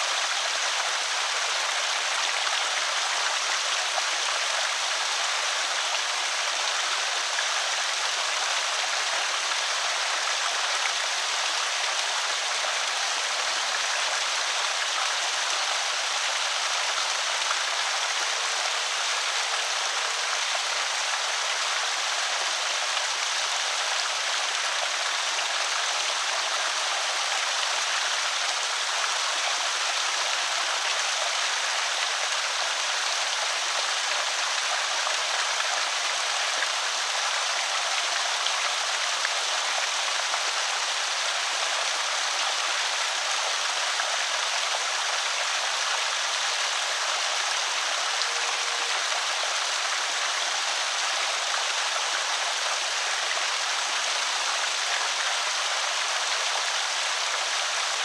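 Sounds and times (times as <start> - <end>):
water pouring over spillway: 0.0 - 58.0.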